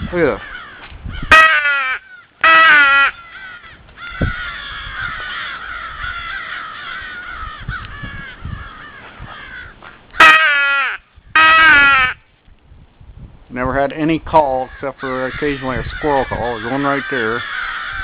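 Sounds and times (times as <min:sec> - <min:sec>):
crows cawing: 0:00.3 - 0:12.2, 0:14.6 - 0:18.0
loud close crow caws: 0:00.4 - 0:12.2, 0:14.6 - 0:18.0.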